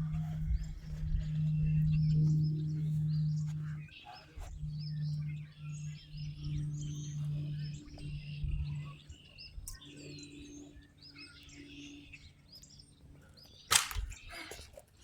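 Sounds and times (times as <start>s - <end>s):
low steady drone: 0.0s - 14.6s
small birds chirping: 0.0s - 15.0s.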